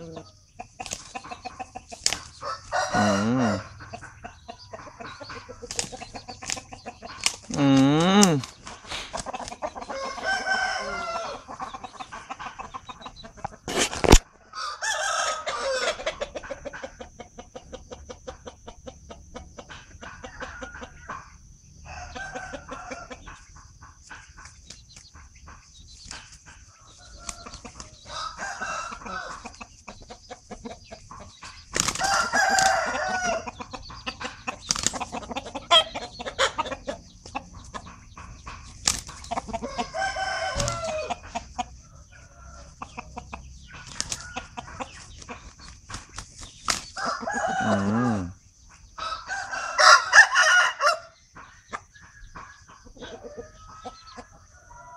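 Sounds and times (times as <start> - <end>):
chickens clucking: 0.0 - 54.9
roosters crowing: 0.0 - 54.9.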